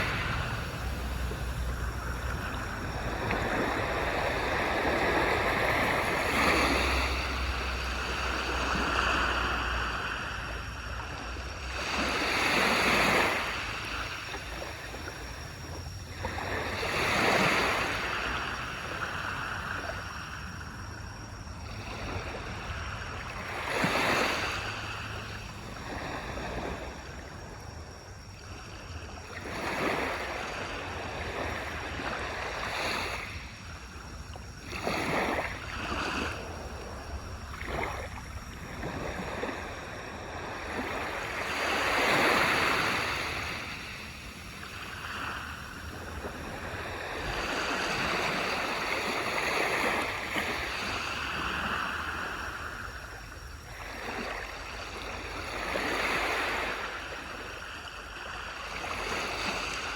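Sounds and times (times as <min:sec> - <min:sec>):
low rumble of surf: 0:00.0 - 0:59.9
small waves washing up beach: 0:00.0 - 0:59.9.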